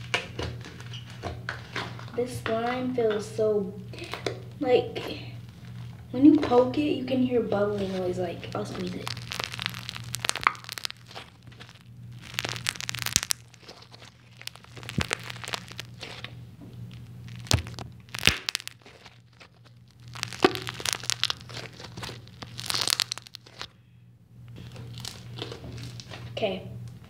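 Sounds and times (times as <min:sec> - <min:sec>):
slime popping and squelching: 0:03.9 - 0:23.8, 0:24.5 - 0:26.4.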